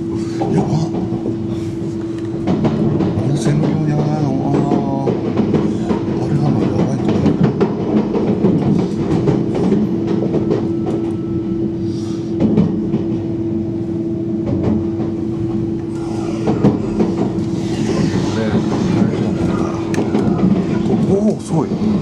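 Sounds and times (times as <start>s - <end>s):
train wheels clattering over rails: 0.0s - 13.4s, 14.4s - 22.0s
steady low hum: 0.0s - 22.0s.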